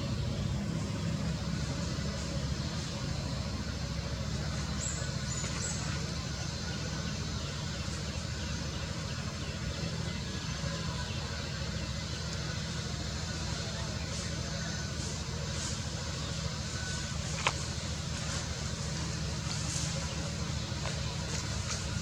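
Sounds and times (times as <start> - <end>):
low rumble of vehicle traffic: 0.0 - 22.0.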